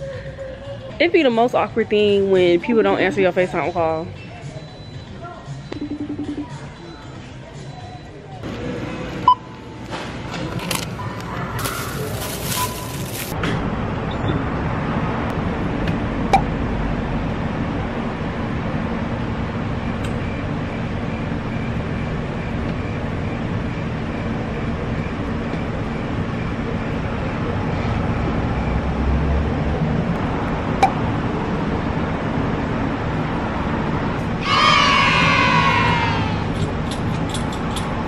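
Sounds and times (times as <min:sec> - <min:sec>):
traffic and engine noise: 0:00.0 - 0:38.0.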